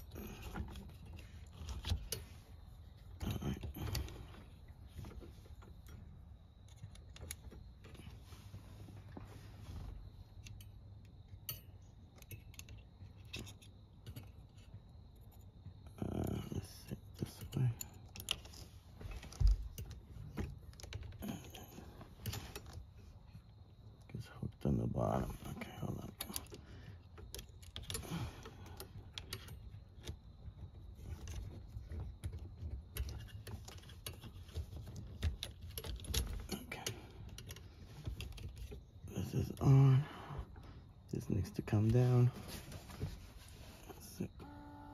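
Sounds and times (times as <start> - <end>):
metal wires and plastic rattling: 0.0 - 8.2, 9.2 - 23.5, 24.1 - 40.0.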